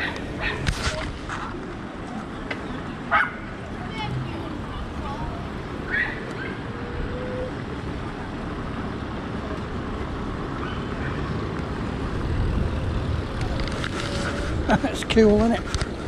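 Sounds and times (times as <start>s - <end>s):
faint voices: 0.0s - 15.8s
traffic rumble: 0.0s - 16.0s
wind: 0.0s - 16.0s.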